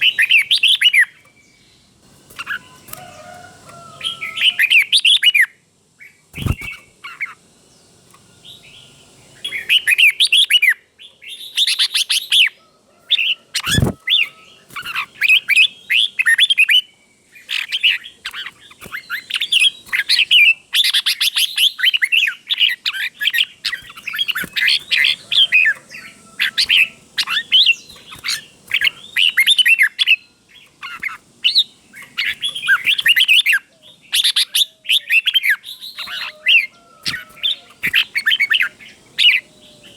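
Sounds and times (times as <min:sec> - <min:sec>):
bulbul singing: 0:00.0 - 0:12.6, 0:13.2 - 0:39.9.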